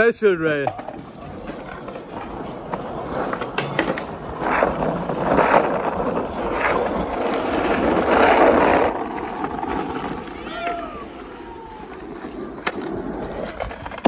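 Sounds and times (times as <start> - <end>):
skateboard wheels rolling on concrete: 0.0 - 14.0.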